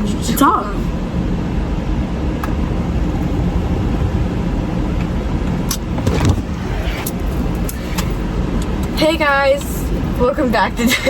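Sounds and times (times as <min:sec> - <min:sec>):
car engine idling: 0:00.4 - 0:10.2.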